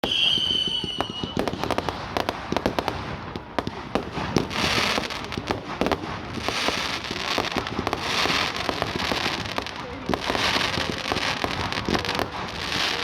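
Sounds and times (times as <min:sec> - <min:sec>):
fireworks popping and crackling: 0:00.0 - 0:13.0
loud hissing crackle: 0:00.0 - 0:13.0.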